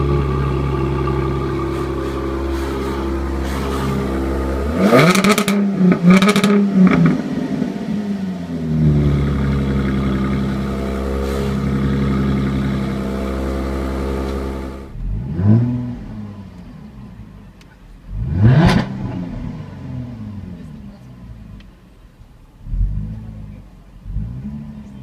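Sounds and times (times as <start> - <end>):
engine throttle blips: 0.0 - 21.8
car engine exhaust idling: 0.0 - 25.0.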